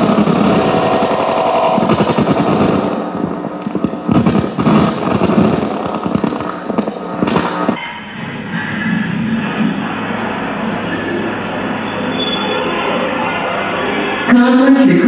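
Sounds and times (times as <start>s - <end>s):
harsh electronic crackling noise: 0.0s - 15.0s.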